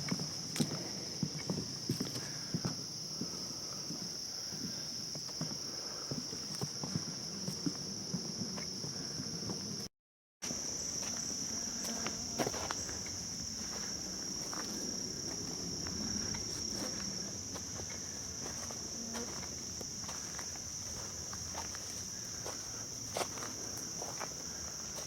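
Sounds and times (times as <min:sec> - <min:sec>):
light footsteps on trail: 0:00.0 - 0:08.7, 0:10.4 - 0:25.0
insects chorus: 0:00.0 - 0:25.0.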